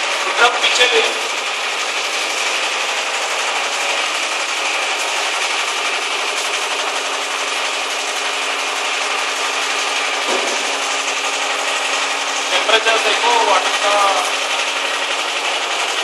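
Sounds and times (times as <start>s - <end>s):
low machinery hum: 0.0s - 16.0s
machinery rattling: 0.0s - 16.0s.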